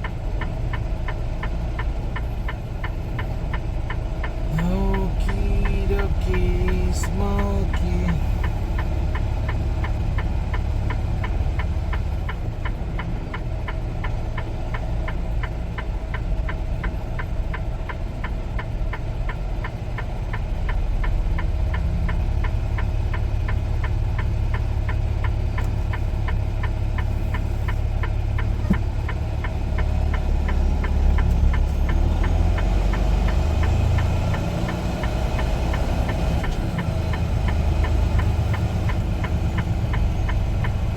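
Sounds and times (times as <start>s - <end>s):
diesel truck engine rumbling: 0.0s - 40.9s
fast even ticking: 0.0s - 40.9s.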